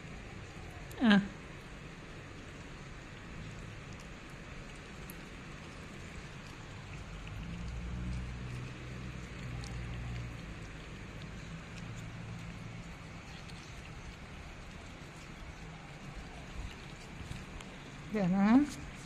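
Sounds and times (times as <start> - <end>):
steady rain-like hiss: 0.0 - 19.0.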